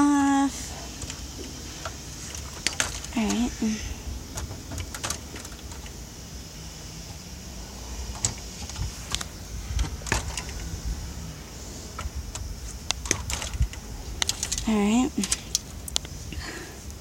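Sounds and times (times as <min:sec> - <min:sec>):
low handling rumble: 0:00.0 - 0:17.0.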